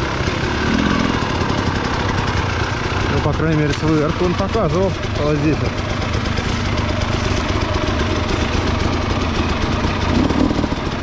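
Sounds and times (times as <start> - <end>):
two-stroke motorcycle engine idling: 0.0 - 11.0.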